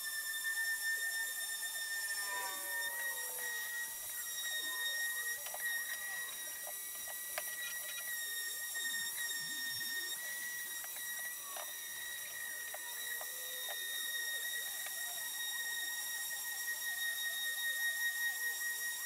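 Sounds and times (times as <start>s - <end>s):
orbital sander whining: 0.0s - 19.0s.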